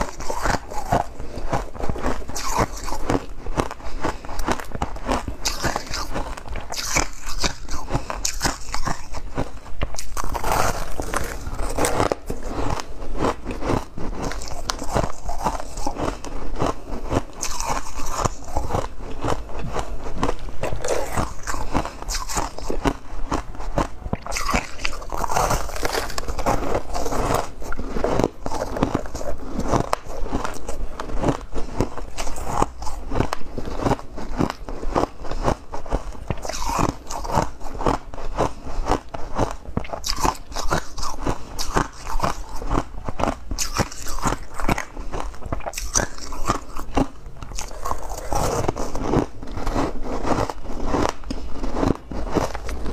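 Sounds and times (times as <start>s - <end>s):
ice being chewed: 0.0s - 52.9s.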